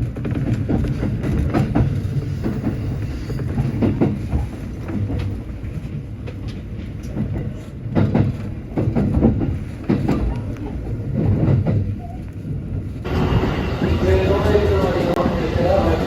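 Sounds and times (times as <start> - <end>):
electric train rumbling: 0.0 - 16.0
train wheels clicking over rail joints: 0.0 - 16.0.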